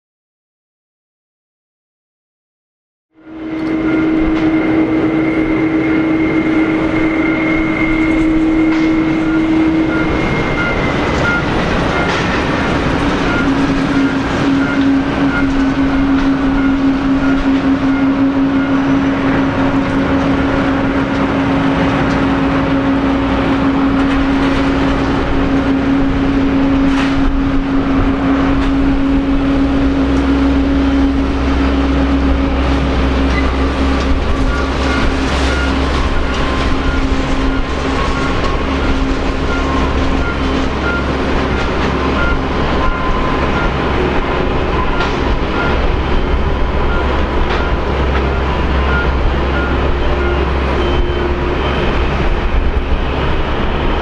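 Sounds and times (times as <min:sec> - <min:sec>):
deep rumble: 0:03.1 - 0:54.0
jet engines whining: 0:03.2 - 0:54.0.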